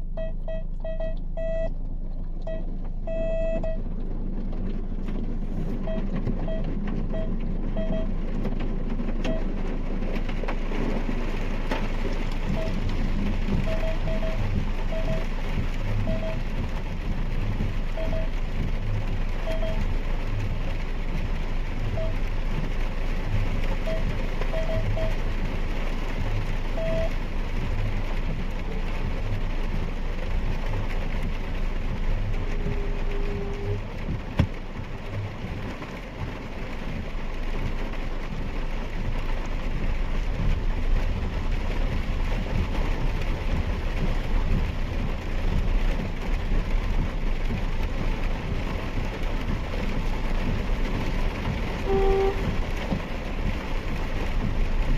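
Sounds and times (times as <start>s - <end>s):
low engine hum: 0.0s - 54.9s
rain on a car: 0.0s - 54.9s
wet road tyre noise: 0.0s - 54.9s.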